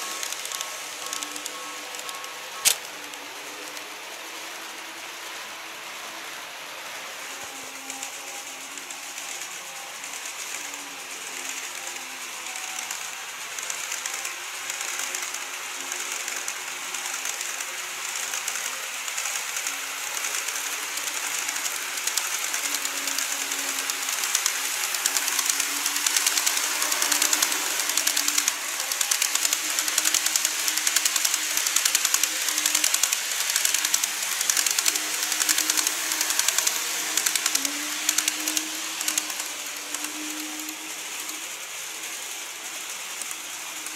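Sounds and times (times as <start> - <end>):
wheels clicking over track: 0.0 - 4.8, 7.2 - 43.9
model train motor hum: 0.0 - 43.9.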